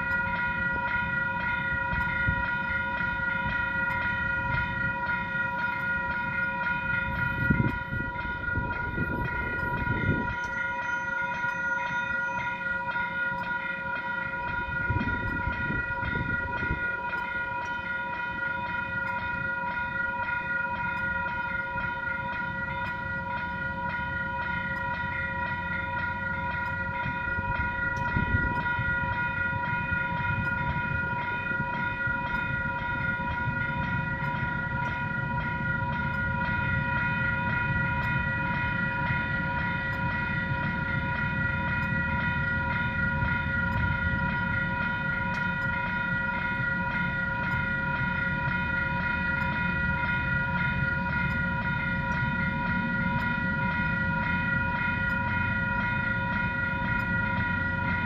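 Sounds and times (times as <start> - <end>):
freight train wagons rumbling: 0.0 - 58.0
level crossing bells ringing: 0.0 - 58.0.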